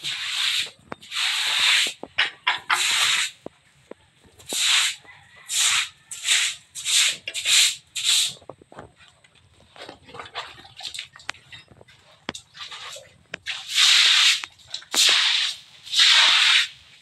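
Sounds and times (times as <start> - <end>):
brush scrubbing wet concrete: 0.0 - 3.5, 4.4 - 8.4, 10.1 - 17.0.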